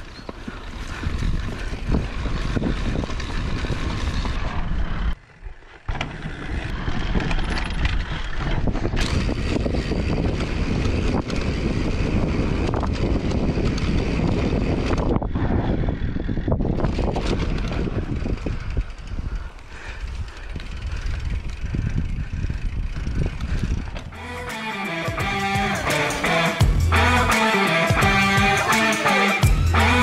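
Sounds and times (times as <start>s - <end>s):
bike knocking and rattling: 0.0s - 24.2s
wind rumbling on microphone: 0.0s - 24.2s.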